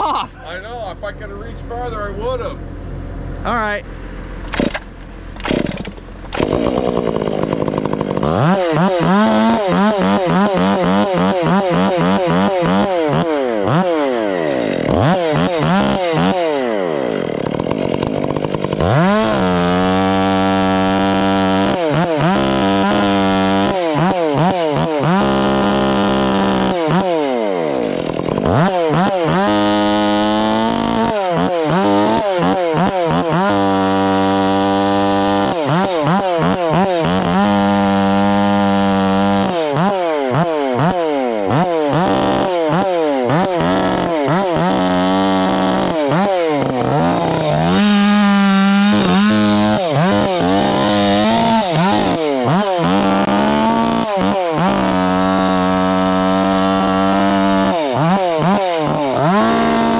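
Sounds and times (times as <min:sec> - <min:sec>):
chainsaw revving and cutting: 0:04.4 - 0:59.9.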